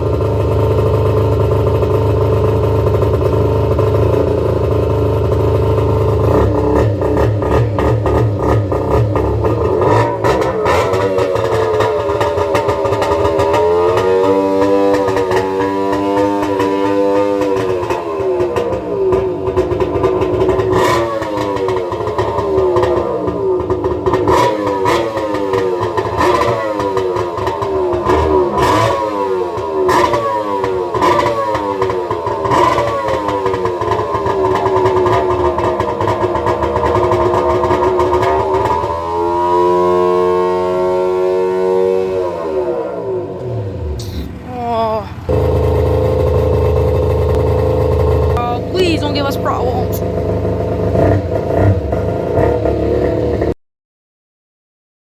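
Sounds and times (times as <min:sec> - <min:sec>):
jet ski engine revving: 0:01.3 - 0:44.5, 0:45.1 - 0:53.5.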